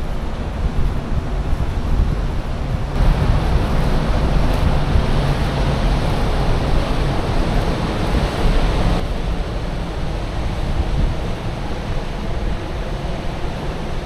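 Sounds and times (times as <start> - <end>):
choppy water rushing: 0.0 - 14.0
wind buffeting microphone: 0.0 - 14.0.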